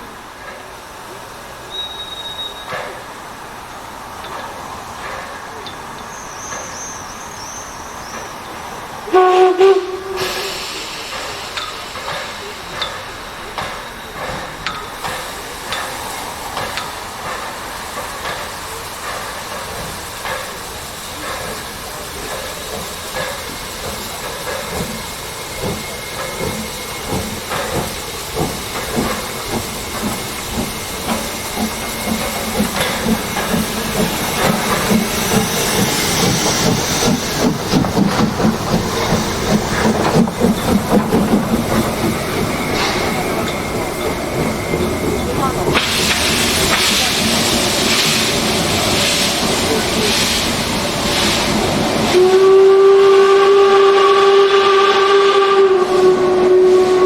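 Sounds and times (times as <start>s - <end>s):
hissing steam: 0.0s - 57.0s
steam train rhythmic beats: 9.1s - 57.0s.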